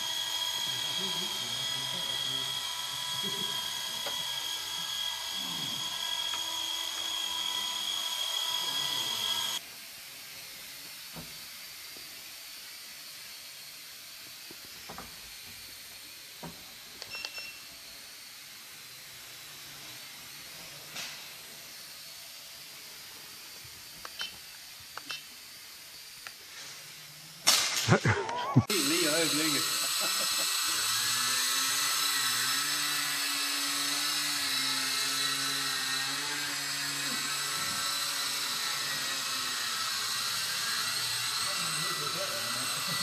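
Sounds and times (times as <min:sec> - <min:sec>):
faint quadcopter hiss: 0:00.0 - 0:43.0
rc helicopter high-pitched whine: 0:00.0 - 0:43.0.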